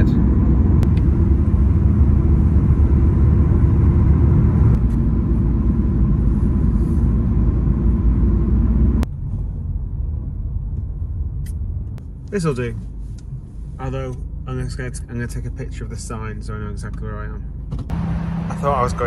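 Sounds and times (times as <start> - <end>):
car cabin road noise: 0.0 - 19.0.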